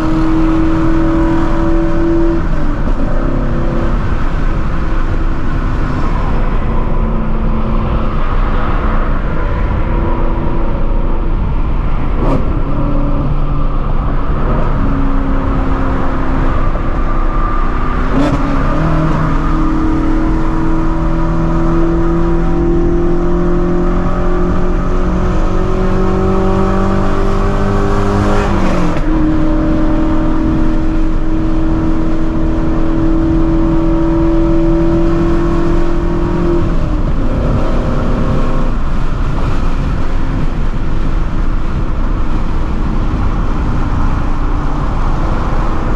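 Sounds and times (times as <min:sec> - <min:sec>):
loud car exhaust at speed: 0:00.0 - 0:45.9.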